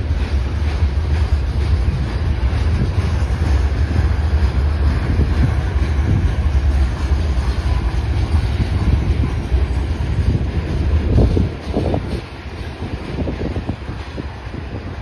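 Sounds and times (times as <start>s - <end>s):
freight train wheels rumbling on rails: 0.0s - 15.0s
wind buffeting microphone: 0.0s - 15.0s.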